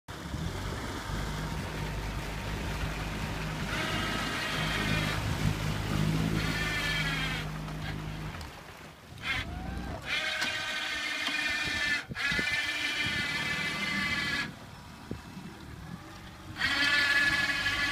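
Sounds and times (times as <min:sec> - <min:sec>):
low boat engine hum: 0:00.1 - 0:17.9.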